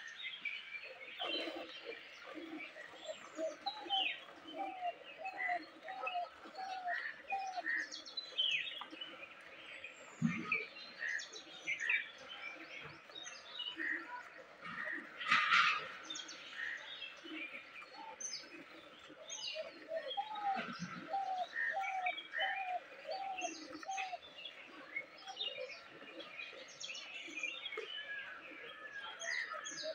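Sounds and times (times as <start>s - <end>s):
songbirds chirping: 0.0s - 29.9s.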